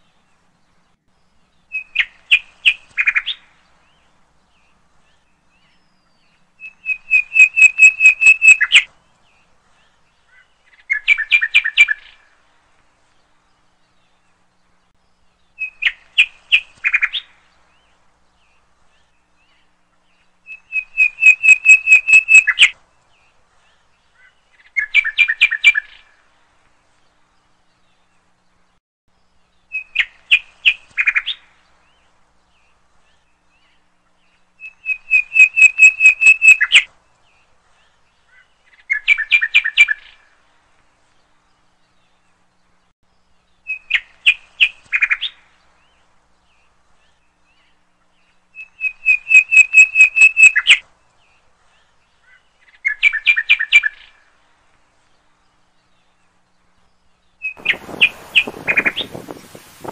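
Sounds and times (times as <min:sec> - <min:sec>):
bird chirping: 0:00.0 - 0:12.3, 0:13.3 - 0:26.2, 0:29.2 - 0:40.4, 0:43.2 - 0:54.3, 0:55.2 - 0:59.9.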